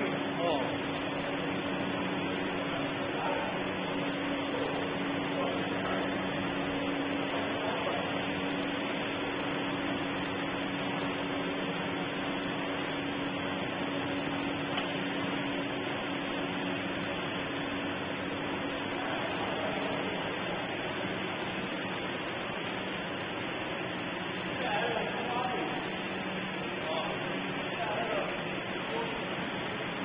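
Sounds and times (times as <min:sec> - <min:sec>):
even mechanical noise: 0:00.0 - 0:30.0
machine hum: 0:00.0 - 0:30.0.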